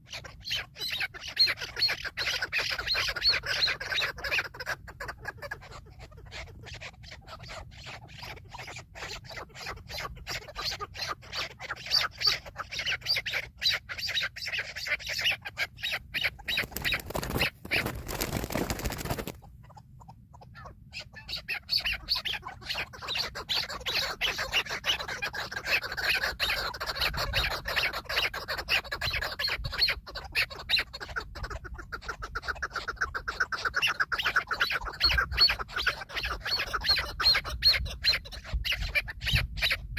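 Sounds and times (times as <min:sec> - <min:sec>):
partridges clucking calls: 0:00.0 - 0:39.9.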